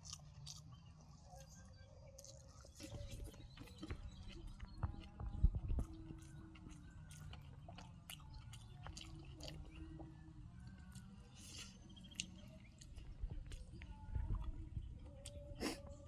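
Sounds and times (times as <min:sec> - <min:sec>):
person chewing food: 0:00.0 - 0:00.7, 0:02.2 - 0:15.9.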